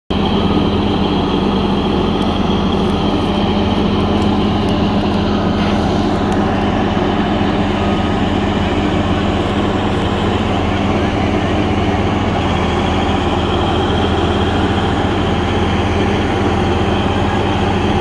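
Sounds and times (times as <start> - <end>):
heavy diesel engine running: 0.1 - 18.0.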